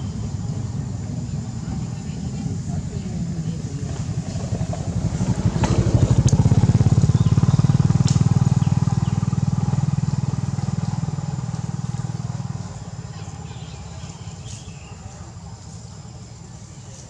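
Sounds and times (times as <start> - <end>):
passing vehicle engine drone: 0.0 - 14.1.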